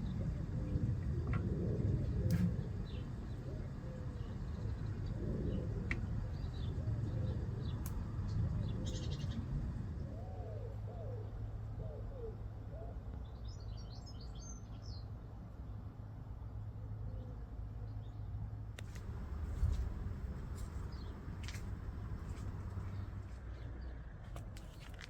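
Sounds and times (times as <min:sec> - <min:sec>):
birds calling and chirping: 0:00.0 - 0:15.1, 0:17.1 - 0:25.0
low background hum: 0:00.0 - 0:25.0.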